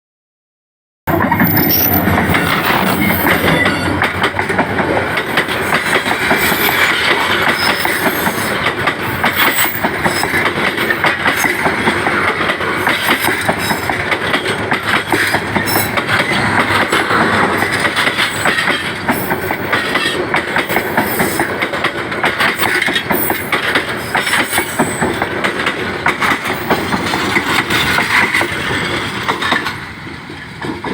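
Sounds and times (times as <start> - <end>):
train running on rails: 1.1 - 30.9.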